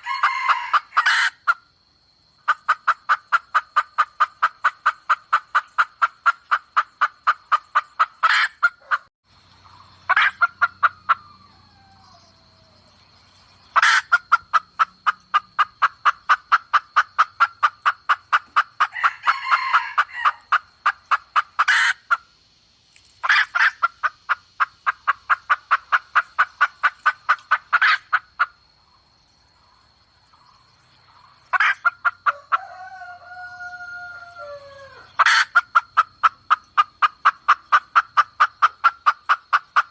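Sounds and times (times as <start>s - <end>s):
hen clucking rapidly: 2.4s - 11.5s, 13.6s - 22.3s, 23.2s - 28.7s, 29.7s - 33.0s, 34.4s - 39.9s.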